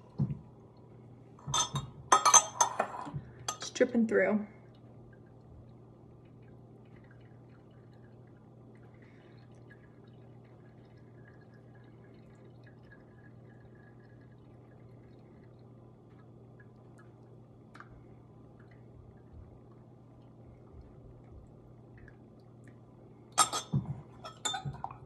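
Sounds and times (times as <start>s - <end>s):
liquid dripping through filter: 0.0s - 25.0s
steady low hum: 0.0s - 25.0s.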